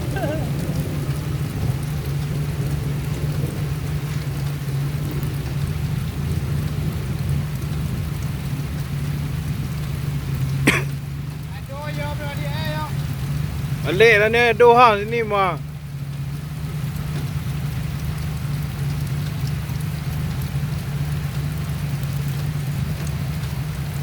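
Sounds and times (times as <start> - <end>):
constant noisy hiss: 0.0 - 24.0
vehicle engine low rumble: 0.0 - 24.0.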